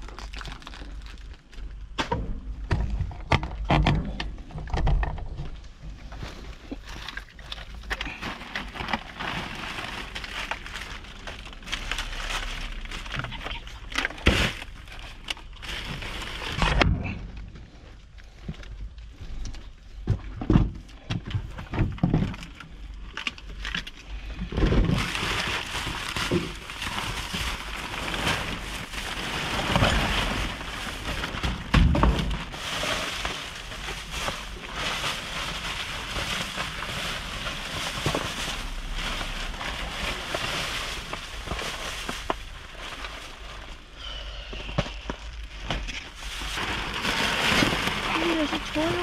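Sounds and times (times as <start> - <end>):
plastic bags crinkling: 0.0 - 3.3, 5.0 - 16.9, 22.3 - 49.0.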